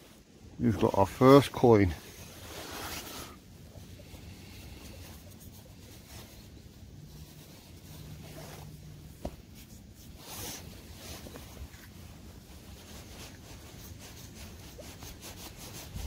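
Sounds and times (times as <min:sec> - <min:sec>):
low steady hum: 0:00.0 - 0:16.0
soil rubbing and rustling: 0:00.0 - 0:16.0.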